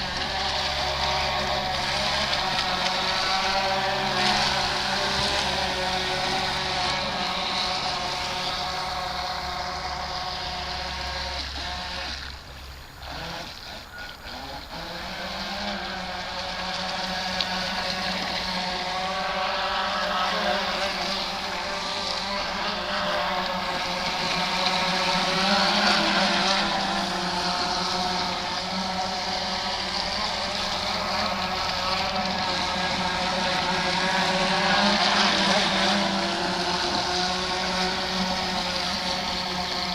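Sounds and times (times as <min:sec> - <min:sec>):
rc boat motor whine: 0:00.0 - 0:39.9.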